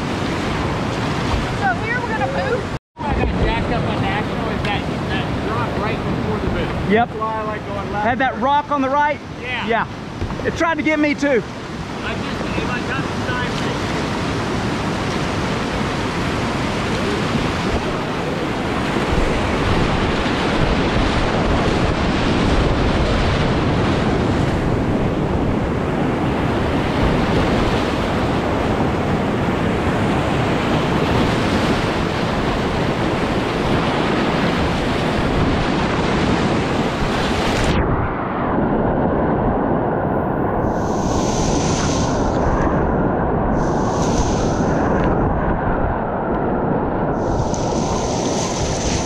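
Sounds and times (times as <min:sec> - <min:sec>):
water buffeting microphone: 0:00.0 - 0:49.0.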